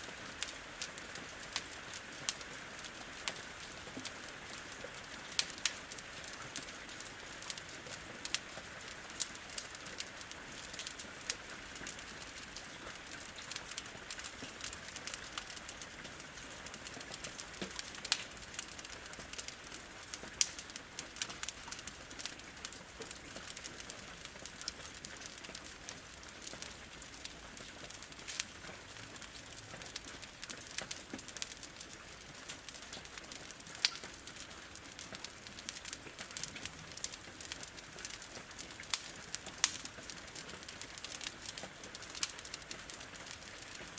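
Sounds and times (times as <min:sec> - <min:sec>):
wood fire crackling: 0:00.2 - 0:43.9
rain on window: 0:00.4 - 0:43.9.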